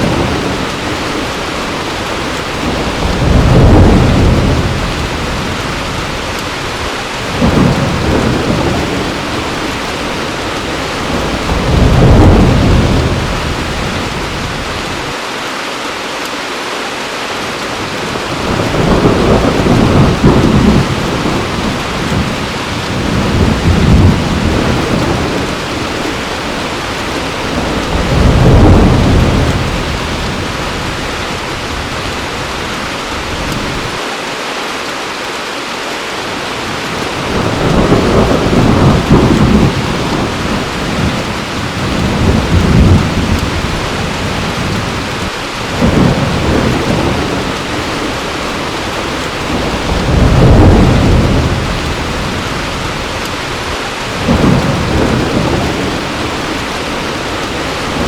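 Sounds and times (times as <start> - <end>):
rolling thunder rumbling: 0.0 - 15.1, 17.8 - 34.0, 36.6 - 58.0
heavy rain falling: 0.0 - 58.0.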